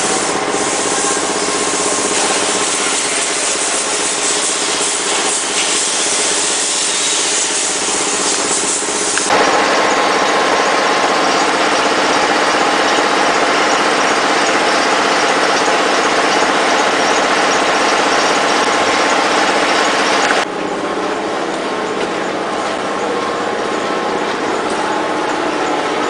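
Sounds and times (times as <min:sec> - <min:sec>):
bus engine idling: 0:00.0 - 0:26.0.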